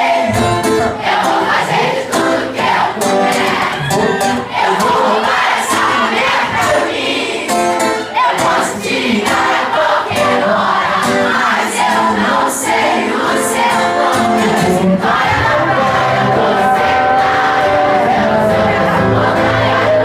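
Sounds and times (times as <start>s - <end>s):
crowd singing along: 0.0s - 20.0s
lead vocal singing: 0.0s - 20.0s
live band music: 0.0s - 20.0s.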